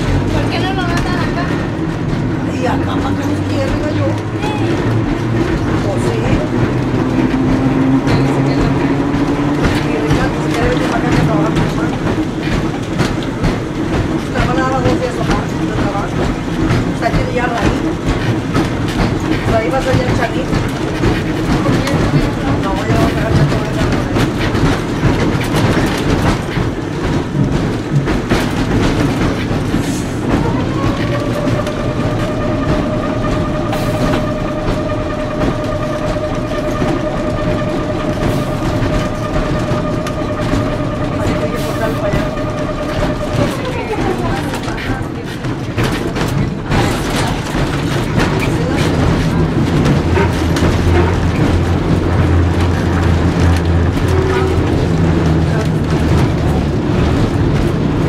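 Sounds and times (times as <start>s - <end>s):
knocks and rattles: 0.0s - 58.0s
streetcar rumble: 0.0s - 58.0s
wheels clicking on rails: 0.0s - 58.0s.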